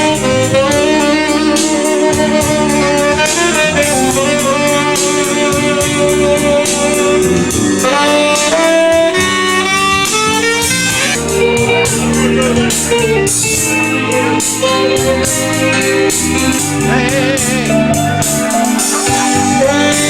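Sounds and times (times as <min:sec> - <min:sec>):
band music with steady beat: 0:00.0 - 0:20.0
saxophone playing melody: 0:00.0 - 0:20.0.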